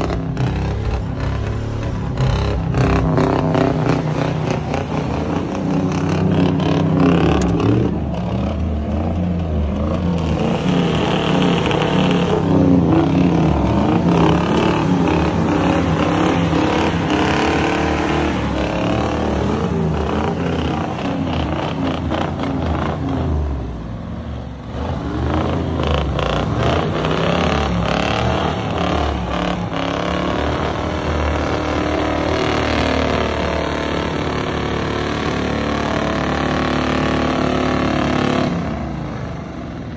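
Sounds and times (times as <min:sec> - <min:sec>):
truck engines running hard: 0:00.0 - 0:39.9.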